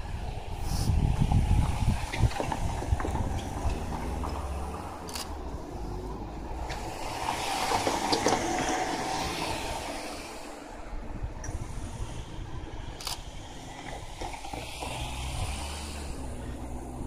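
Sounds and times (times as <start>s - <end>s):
car rumble and tyre noise: 0.0s - 17.0s
road noise: 0.0s - 17.0s.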